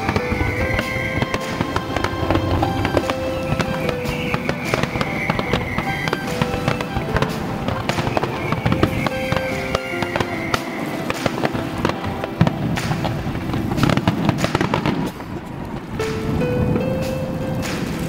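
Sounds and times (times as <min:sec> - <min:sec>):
fireworks bangs and crackling: 0:00.0 - 0:18.0
music with held notes: 0:00.0 - 0:18.0.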